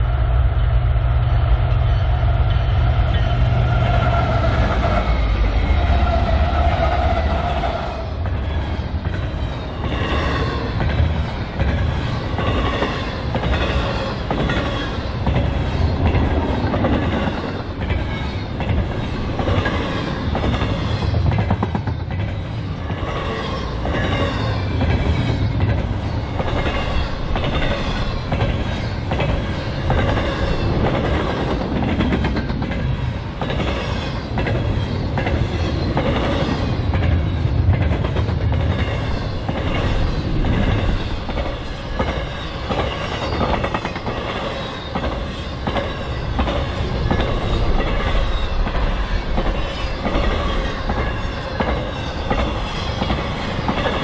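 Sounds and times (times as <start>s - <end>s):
rumble of passing freight cars: 0.0s - 54.0s
train wheels clicking over rail joints: 3.0s - 54.0s.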